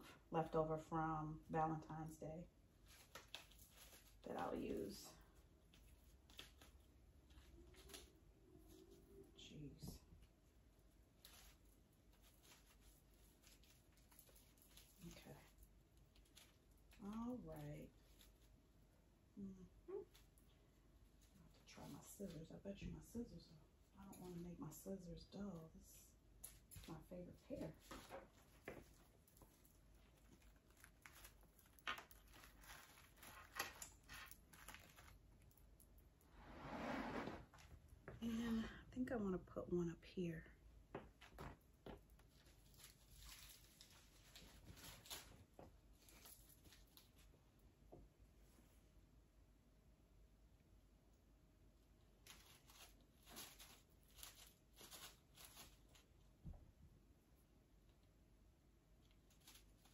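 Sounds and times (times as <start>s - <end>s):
rustling of artificial flowers: 0.0s - 39.4s, 40.5s - 49.1s, 51.7s - 59.9s.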